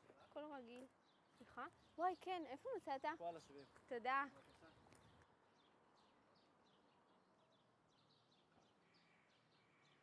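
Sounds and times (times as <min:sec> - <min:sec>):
faint birdsong chirps: 0:00.0 - 0:10.0.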